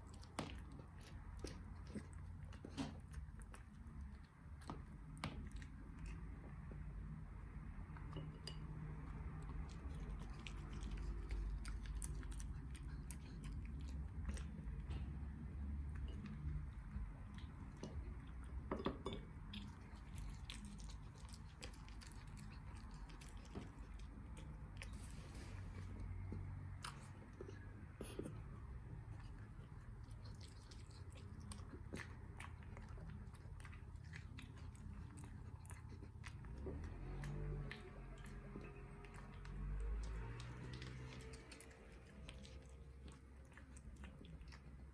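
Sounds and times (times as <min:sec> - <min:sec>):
dog chewing food: 0:00.0 - 0:06.7, 0:09.0 - 0:18.7, 0:19.4 - 0:44.9
low steady hum: 0:00.0 - 0:44.9.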